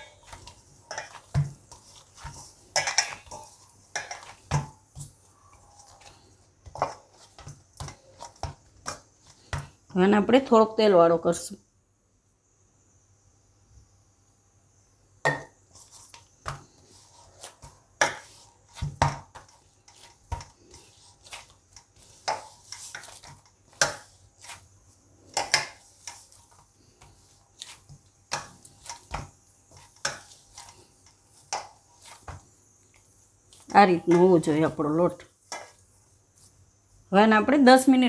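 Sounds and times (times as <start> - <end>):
hands kneading dough: 0.0 - 10.4, 15.6 - 37.0.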